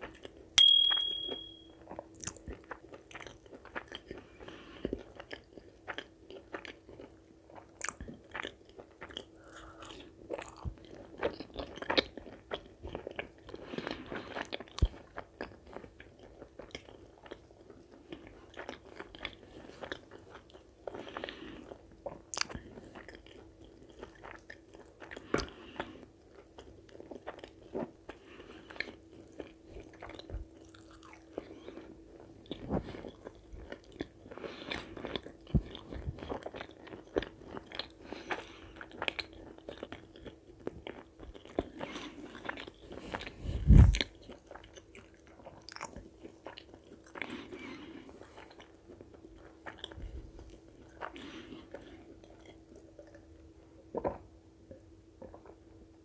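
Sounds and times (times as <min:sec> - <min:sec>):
faint steady hum: 0:00.0 - 0:56.0
person chewing and biting food: 0:01.9 - 0:25.6, 0:26.2 - 0:53.3.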